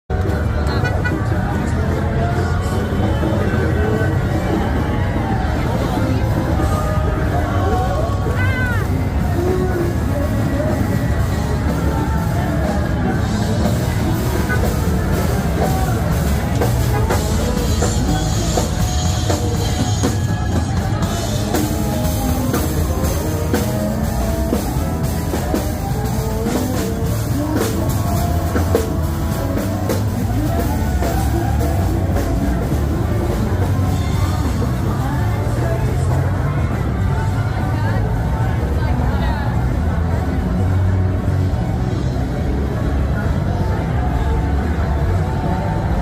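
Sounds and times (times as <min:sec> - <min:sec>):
live rock band music: 0:00.1 - 0:46.0.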